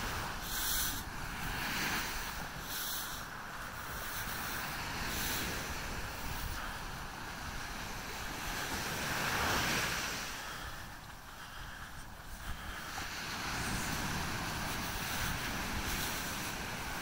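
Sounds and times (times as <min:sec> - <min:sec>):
ocean surf breaking on beach: 0:00.0 - 0:17.0
wind rumbling on microphone: 0:00.0 - 0:17.0.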